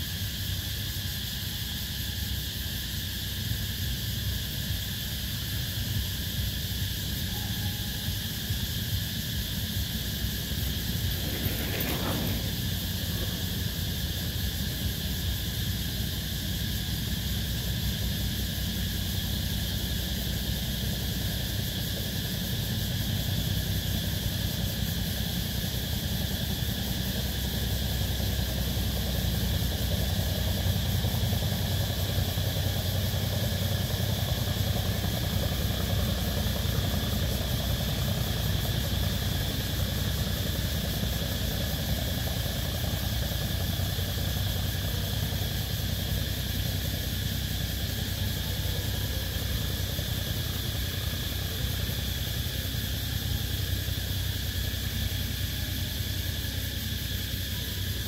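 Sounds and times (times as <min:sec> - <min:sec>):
cicadas calling: 0:00.0 - 0:58.0
low engine rumble: 0:00.1 - 0:58.0.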